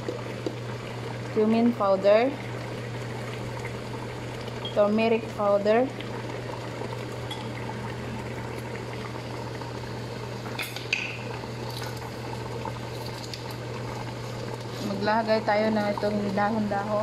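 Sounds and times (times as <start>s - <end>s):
broth bubbling in a pot: 0.0s - 17.0s.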